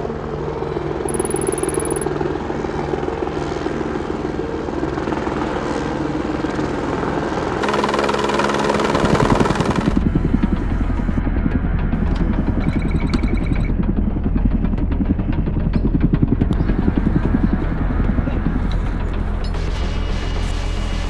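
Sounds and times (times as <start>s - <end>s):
helicopter engine and rotor: 0.0s - 19.7s.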